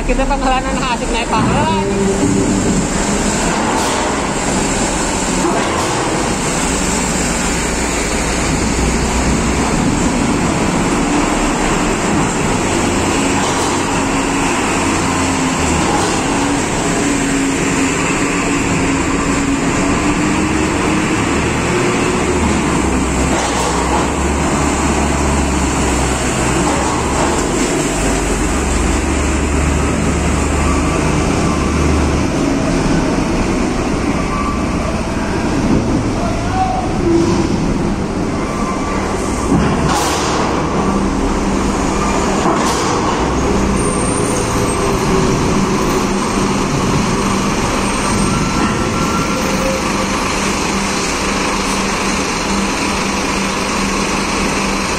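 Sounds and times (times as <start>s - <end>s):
truck engines rumbling: 0.0s - 54.9s.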